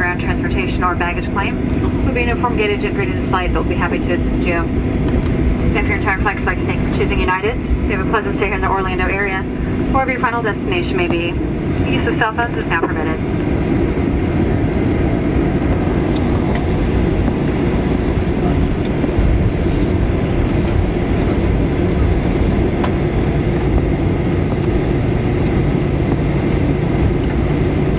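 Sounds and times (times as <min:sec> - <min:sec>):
airplane cabin rumble: 0:00.0 - 0:27.9.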